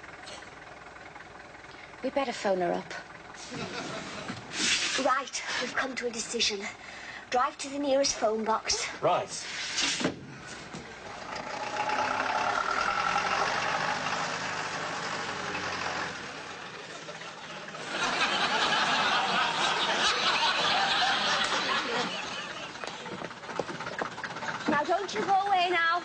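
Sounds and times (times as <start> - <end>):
car engine driving off: 0.0 - 7.3, 9.0 - 26.0.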